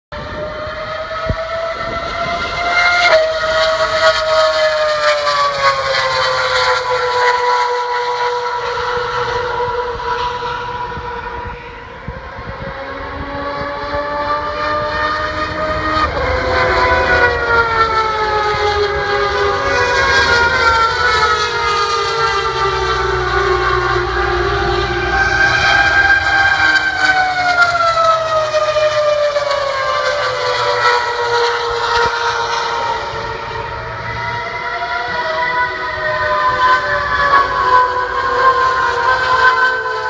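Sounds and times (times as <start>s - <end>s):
racing car engine screaming: 0.2s - 40.0s.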